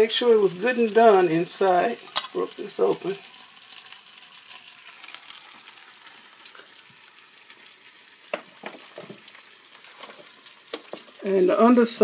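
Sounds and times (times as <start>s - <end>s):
chicken wings sizzling: 0.0s - 12.0s.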